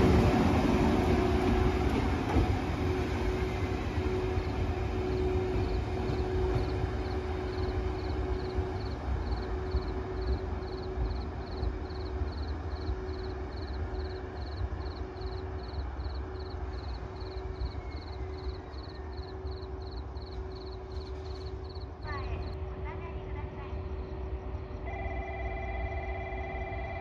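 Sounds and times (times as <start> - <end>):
locomotive rumble: 0.0 - 25.0.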